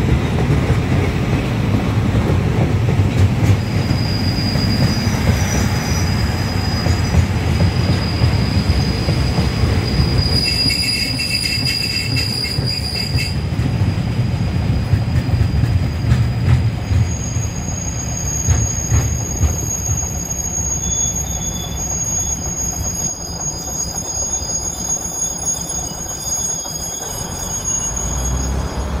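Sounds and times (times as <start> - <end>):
train wheels rumbling: 0.0 - 29.0
high-pitched wheel squeal: 3.6 - 13.4, 15.0 - 29.0.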